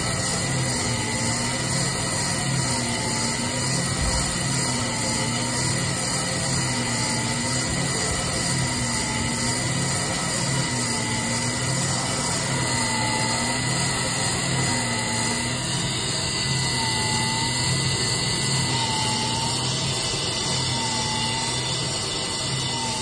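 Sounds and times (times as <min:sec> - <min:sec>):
brake lathe humming and hissing: 0:00.0 - 0:23.0.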